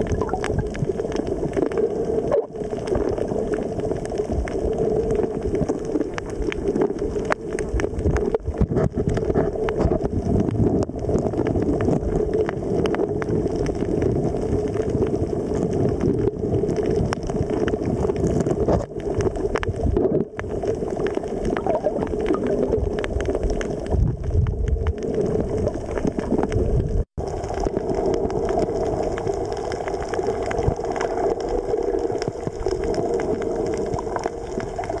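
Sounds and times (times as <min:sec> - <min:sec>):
underwater rumble and gurgling: 0:00.0 - 0:35.0.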